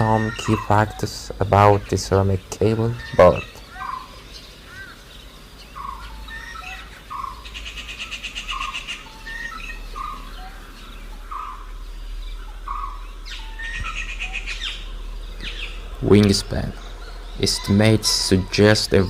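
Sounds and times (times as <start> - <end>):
fast high bird trill: 0.0 - 19.0.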